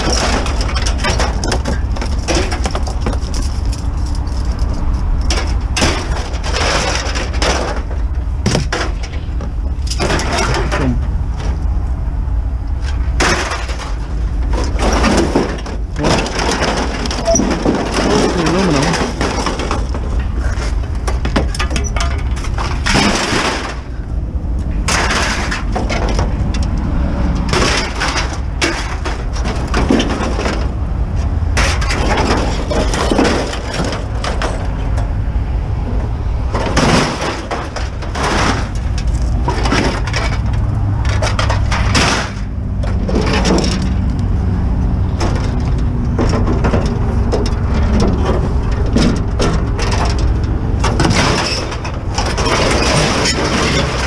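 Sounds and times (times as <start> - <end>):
sheet metal and paper clattering: 0.0 - 11.7, 12.8 - 24.1, 24.8 - 26.7, 27.4 - 30.8, 31.5 - 35.1, 36.5 - 54.0
steady low rumble: 0.0 - 54.0.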